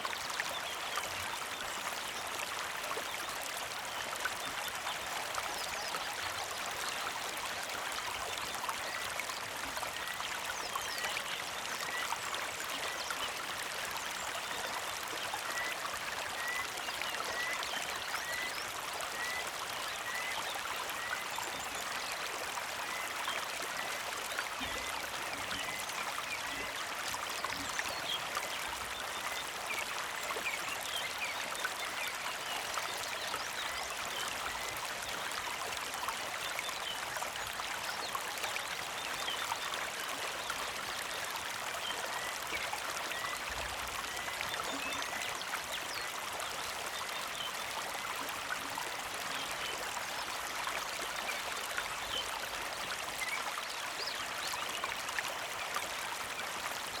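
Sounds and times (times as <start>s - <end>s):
creek trickling over stones: 0.0s - 57.0s.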